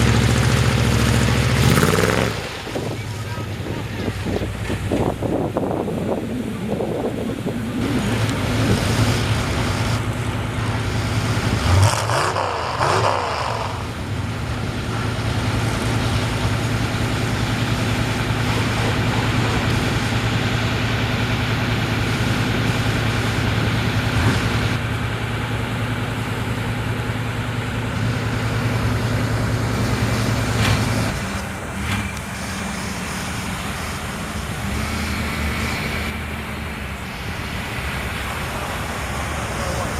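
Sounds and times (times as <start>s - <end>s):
large truck engine running: 0.0s - 39.9s.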